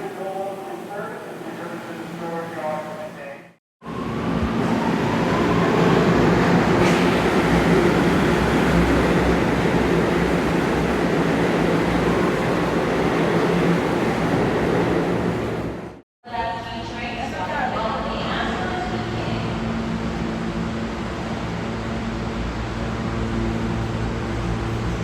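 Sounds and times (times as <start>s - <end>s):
train wheel and rail noise: 0.0s - 16.0s, 16.8s - 25.0s.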